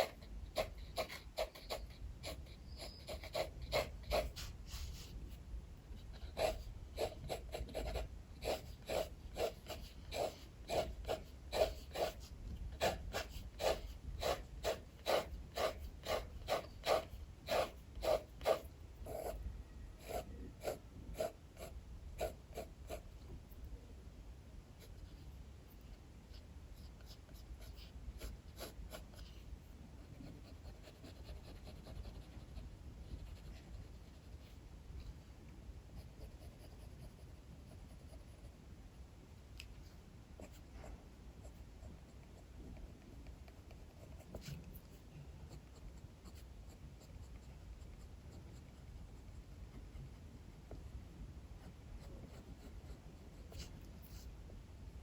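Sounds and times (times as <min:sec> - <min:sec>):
pencil strokes scratching paper: 0:00.0 - 0:19.4, 0:20.0 - 0:23.1, 0:26.3 - 0:35.2, 0:36.0 - 0:38.6, 0:40.4 - 0:50.9, 0:51.6 - 0:54.4.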